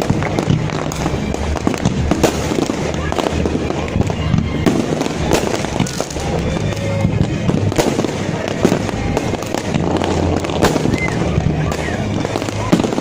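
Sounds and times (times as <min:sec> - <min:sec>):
fireworks bursting: 0:00.0 - 0:13.0
music playing: 0:00.0 - 0:13.0.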